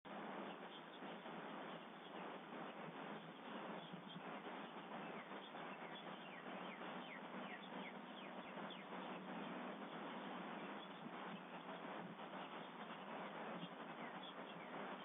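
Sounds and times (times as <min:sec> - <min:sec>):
steady hiss: 0:00.1 - 0:15.0.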